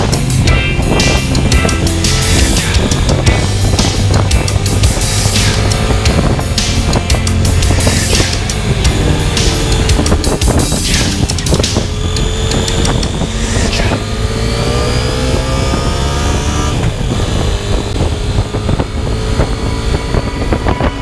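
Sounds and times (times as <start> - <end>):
low wind rumble: 0.0 - 21.0
motorcycle engine accelerating: 0.0 - 21.0.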